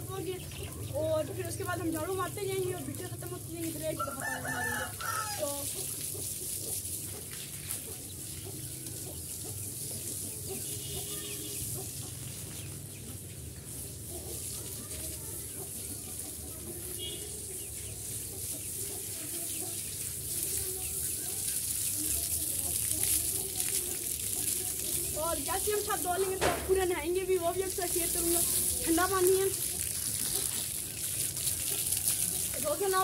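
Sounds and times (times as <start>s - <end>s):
hose water spraying on concrete: 0.0s - 33.0s
chickens clucking: 0.4s - 27.0s, 27.6s - 33.0s.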